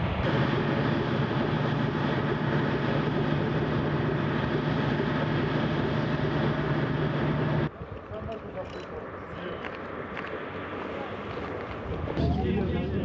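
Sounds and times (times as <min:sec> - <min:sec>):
diesel locomotive drone: 0:00.0 - 0:07.9, 0:08.6 - 0:13.0.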